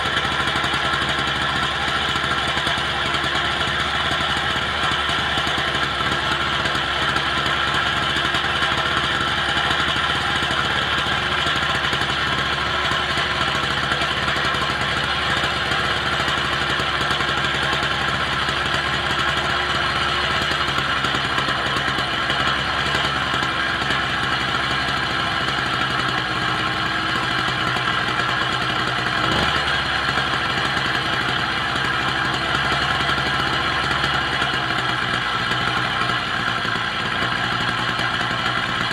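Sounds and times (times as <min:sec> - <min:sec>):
small two-stroke engine idling: 0:00.0 - 0:38.9.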